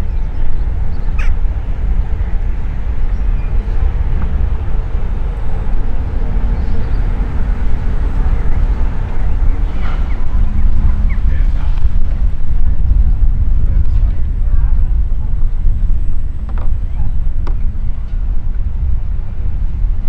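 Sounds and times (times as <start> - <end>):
turboprop idling low rumble: 0.0 - 20.0.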